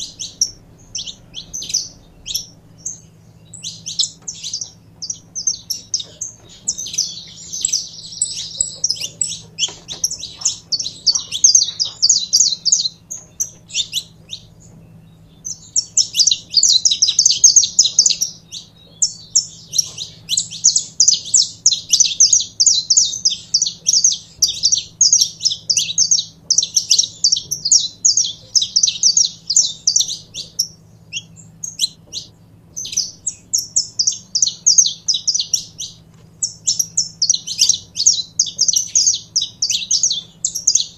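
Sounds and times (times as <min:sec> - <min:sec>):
finch singing high chirps: 0:00.0 - 0:40.9.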